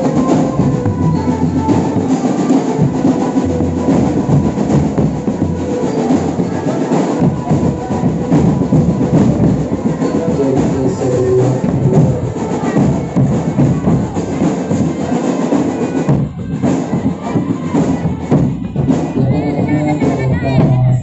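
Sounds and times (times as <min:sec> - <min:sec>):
marching drum band: 0:00.0 - 0:21.0.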